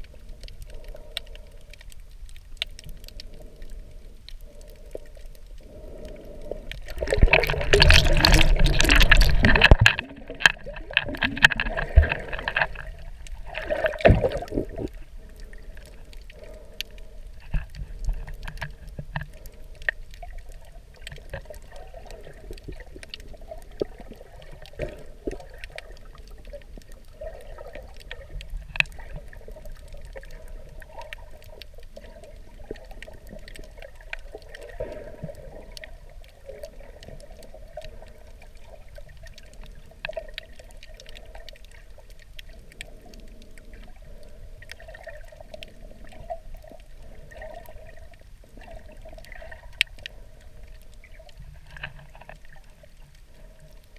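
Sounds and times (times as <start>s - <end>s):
sharp underwater clicks: 0.0s - 53.9s
water sloshing underwater: 0.0s - 53.9s.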